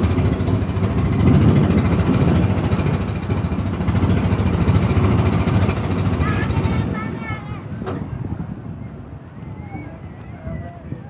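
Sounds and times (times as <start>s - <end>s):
boat engine running: 0.0s - 11.0s
water rushing past hull: 0.0s - 11.0s.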